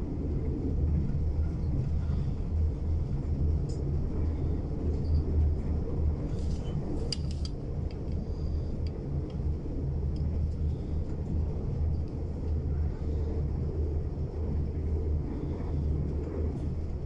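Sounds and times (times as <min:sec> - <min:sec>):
low rumble of train wheels: 0:00.0 - 0:17.0.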